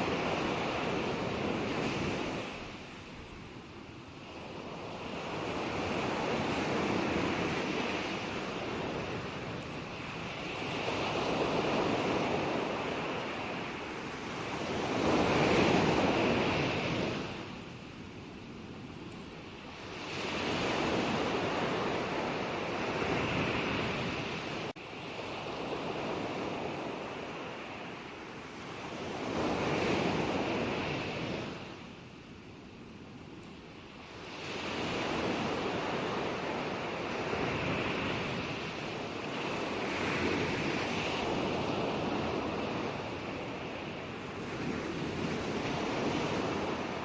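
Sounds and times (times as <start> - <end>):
ocean waves washing ashore: 0.0 - 47.0.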